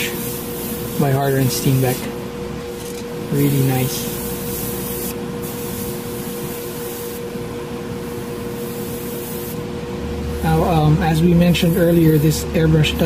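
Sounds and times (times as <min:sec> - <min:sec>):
airbrush spraying hiss: 0:00.0 - 0:09.6, 0:10.3 - 0:13.0
steady low hum: 0:00.0 - 0:13.0.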